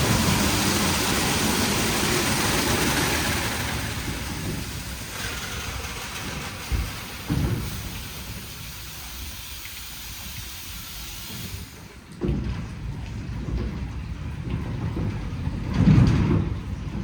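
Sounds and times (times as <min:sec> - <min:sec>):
car wash water and machinery rumble: 0:00.0 - 0:17.0.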